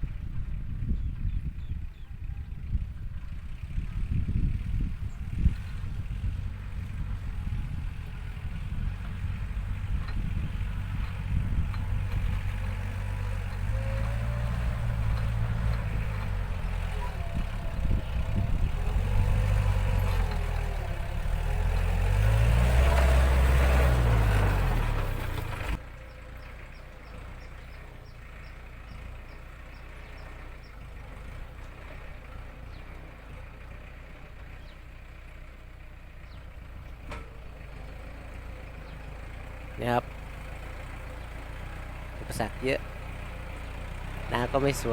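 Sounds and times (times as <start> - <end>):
tractor diesel engine working: 0.0 - 44.9.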